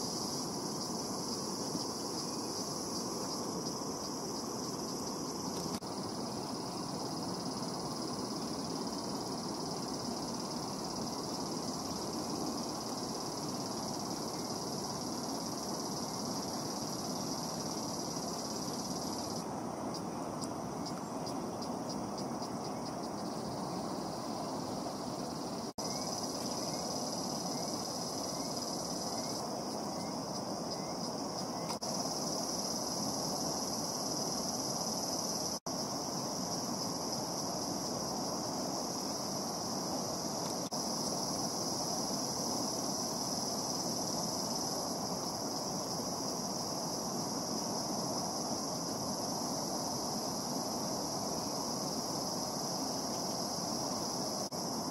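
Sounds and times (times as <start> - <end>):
insects buzzing: 0.0 - 54.9
steady rushing hiss: 0.0 - 54.9.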